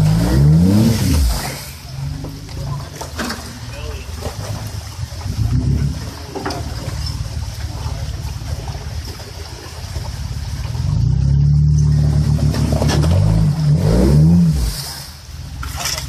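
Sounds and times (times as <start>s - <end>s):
engine working under load: 0.0s - 16.0s.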